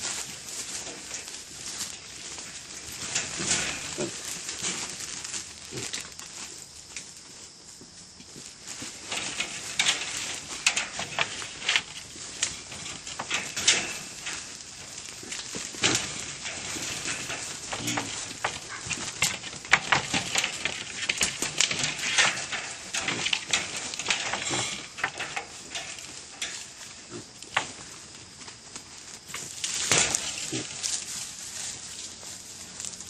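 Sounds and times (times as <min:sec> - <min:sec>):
animals scrabbling in dry leaves: 0:00.0 - 0:33.0.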